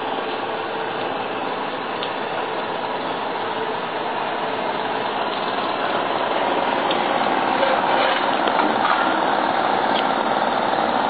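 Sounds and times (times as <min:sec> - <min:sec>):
heavy machinery engines running: 0:00.0 - 0:11.0.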